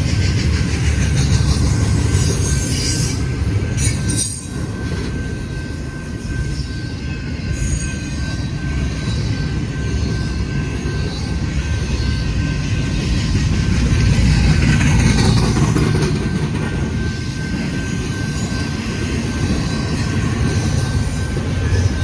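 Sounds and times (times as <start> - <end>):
freight train rumbling past: 0.0 - 22.0
train wheel squeals: 0.0 - 22.0.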